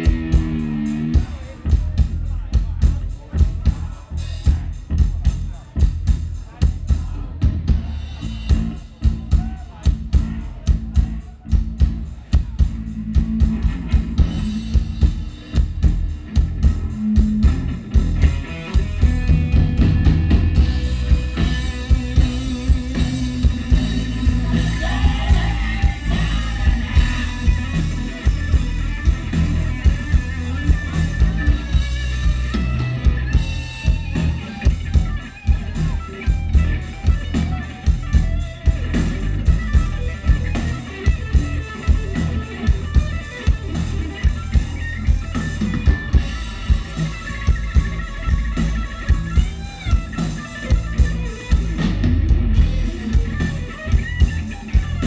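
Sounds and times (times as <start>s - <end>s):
bass: 0.0s - 55.0s
drum kit beat: 0.0s - 55.0s
guitar: 0.0s - 55.0s.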